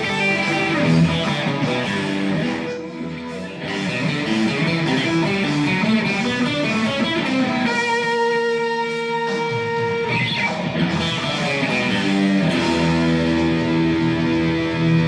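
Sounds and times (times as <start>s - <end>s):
electric guitar playing notes: 0.0s - 15.0s.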